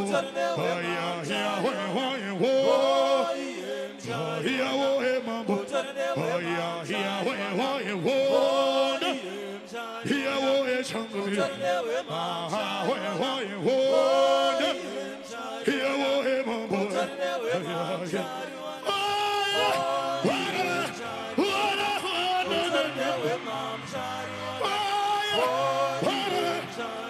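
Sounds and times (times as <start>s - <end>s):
voices singing in harmony: 0.0s - 27.0s.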